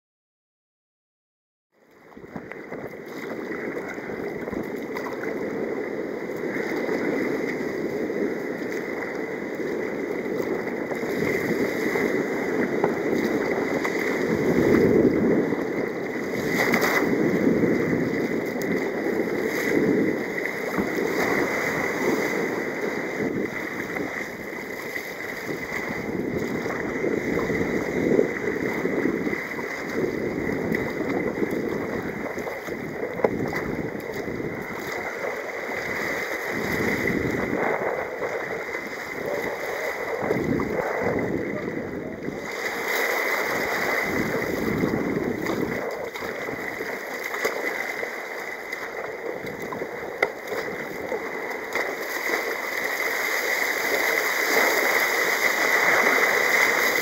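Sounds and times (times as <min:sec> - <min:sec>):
water sloshing around hull: 0:01.8 - 0:57.0
wind on microphone: 0:01.8 - 0:57.0.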